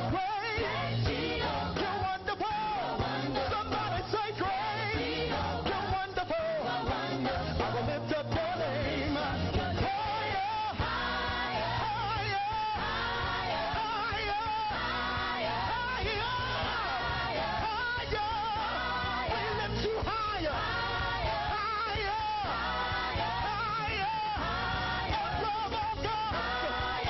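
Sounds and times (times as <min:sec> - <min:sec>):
voices singing with vibrato: 0:00.0 - 0:27.0.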